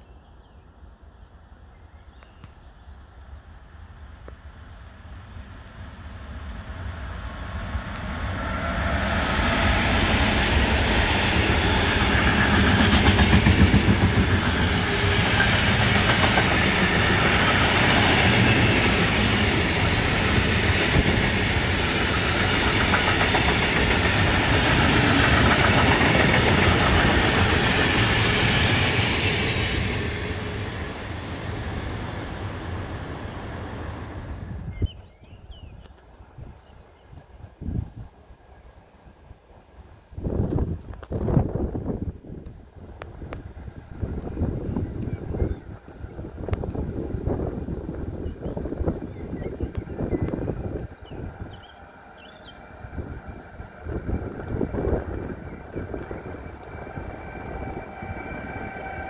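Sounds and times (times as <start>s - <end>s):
freight train wheels on rails: 3.0s - 35.0s, 38.4s - 59.0s.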